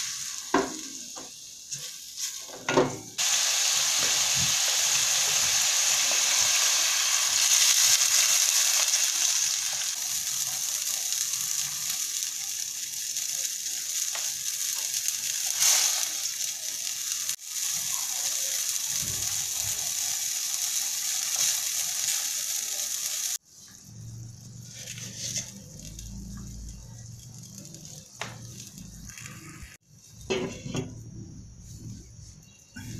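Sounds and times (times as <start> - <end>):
pork sizzling in a pot: 0.0 - 32.9.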